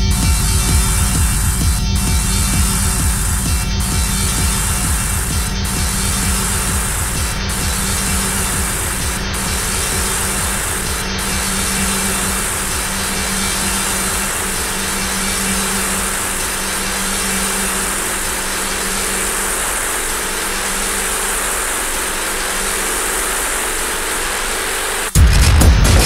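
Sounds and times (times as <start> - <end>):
engine-like electronic drone: 0.0 - 26.0.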